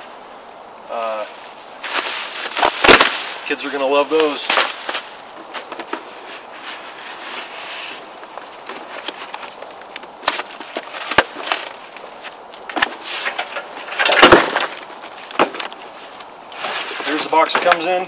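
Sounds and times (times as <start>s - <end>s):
cardboard rustling and scraping: 1.2s - 18.0s.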